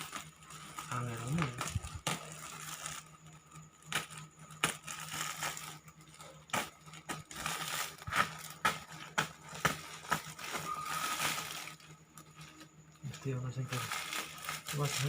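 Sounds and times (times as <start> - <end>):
packaging crackles and clicks: 0.0 - 15.0
packaging rustling: 0.0 - 15.0.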